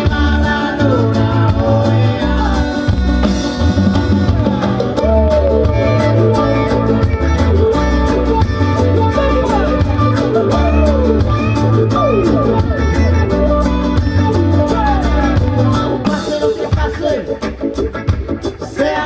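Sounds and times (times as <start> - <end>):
pounding bass: 0.0 - 18.4
drums with hi-hat beat: 0.0 - 19.0.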